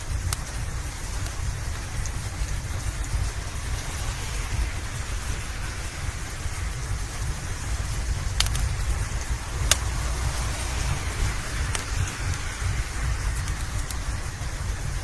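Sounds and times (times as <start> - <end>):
faint ticks: 0.0 - 5.1, 6.4 - 15.0
low rumble: 0.0 - 15.0
rain falling: 0.0 - 15.0.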